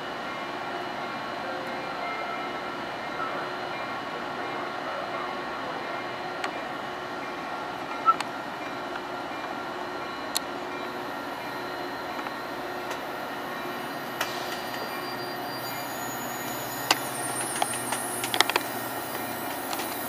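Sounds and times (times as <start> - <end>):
train humming with tones: 0.0 - 20.0.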